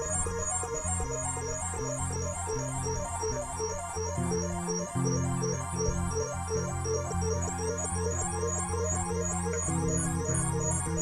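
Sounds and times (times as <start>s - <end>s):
low held synth notes: 0.0s - 11.0s.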